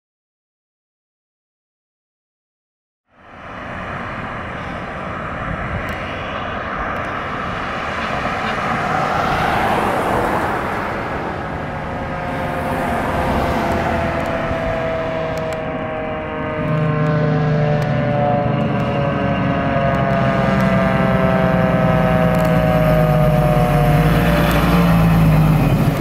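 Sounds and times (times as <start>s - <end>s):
emergency siren: 3.1s - 26.0s
fire engine roaring: 3.1s - 26.0s.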